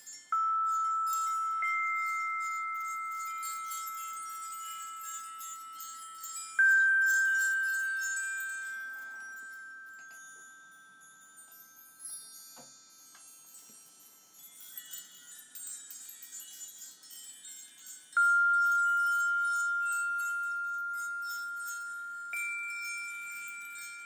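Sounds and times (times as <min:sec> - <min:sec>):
metallic chime tone ringing: 0:00.0 - 0:24.0
tinkling chimes: 0:00.0 - 0:24.0.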